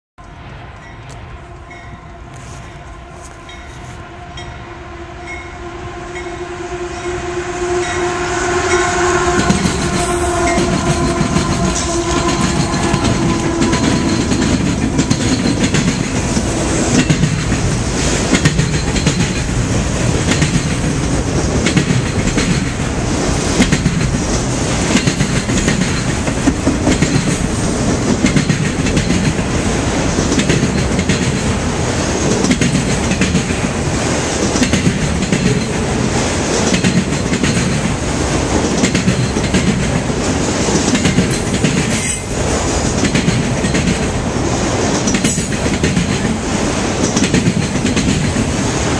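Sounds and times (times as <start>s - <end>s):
train wheels clacking over rail joints: 9.3s - 48.9s.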